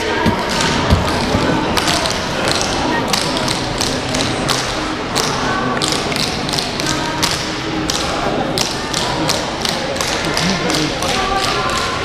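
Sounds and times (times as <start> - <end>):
canes and feet tapping on floor: 0.0 - 12.0.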